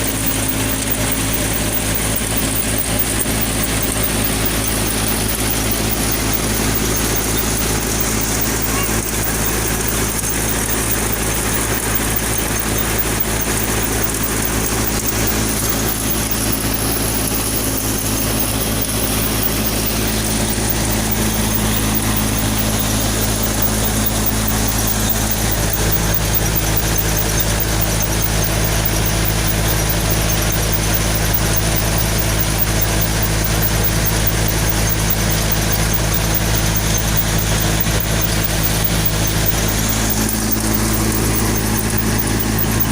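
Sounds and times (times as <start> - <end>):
high whine: 0.0 - 42.9
tractor diesel engine running: 0.0 - 42.9.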